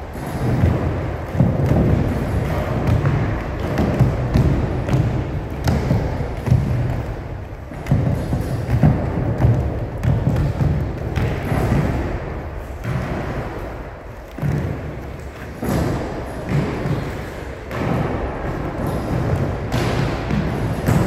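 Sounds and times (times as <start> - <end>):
children's feet thudding on wooden floor: 0.0 - 21.0.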